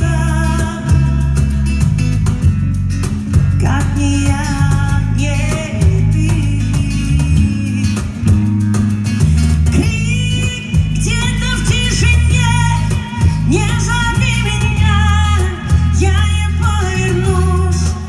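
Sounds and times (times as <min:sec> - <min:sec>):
band music: 0:00.0 - 0:18.0.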